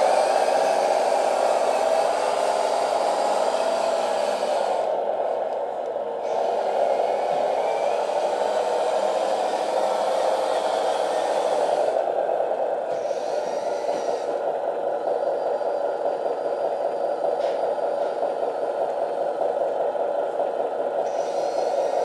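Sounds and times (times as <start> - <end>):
electric motor and gears whirring: 0.0 - 22.0
simulated truck engine sound: 0.0 - 22.0.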